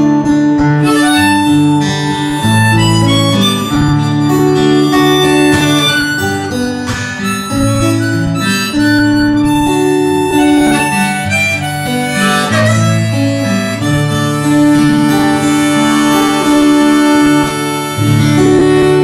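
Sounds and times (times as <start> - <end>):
guitar accompaniment: 0.0 - 19.0
harmonica melody: 0.0 - 19.0.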